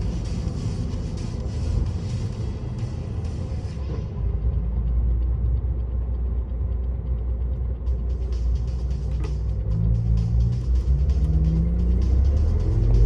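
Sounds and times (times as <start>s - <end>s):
diesel truck engine: 0.0s - 13.0s
road rumble: 0.0s - 13.0s.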